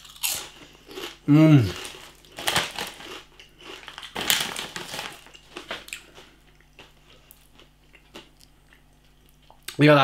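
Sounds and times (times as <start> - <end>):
crisps crunching and chewing: 0.0 - 9.8.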